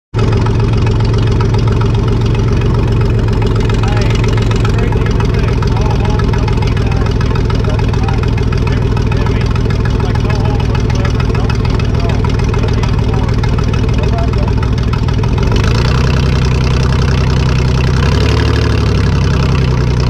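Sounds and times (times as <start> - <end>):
car engine idling: 0.1 - 20.0.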